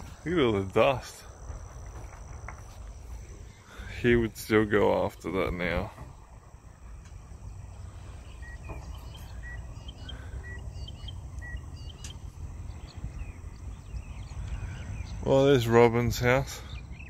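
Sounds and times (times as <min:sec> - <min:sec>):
low steady rumble: 0:00.0 - 0:17.0
small birds chirping: 0:00.0 - 0:17.0.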